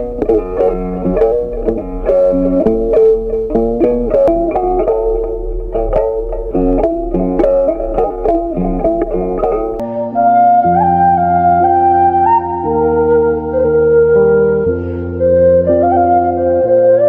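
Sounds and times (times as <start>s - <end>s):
plucked string music: 0.0s - 16.9s.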